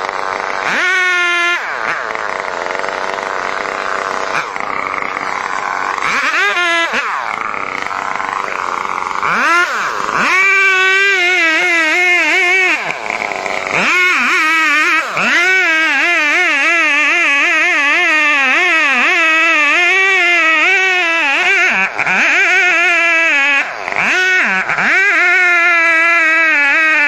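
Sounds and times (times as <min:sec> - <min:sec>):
chainsaw cutting at high revs: 0:00.0 - 0:27.0.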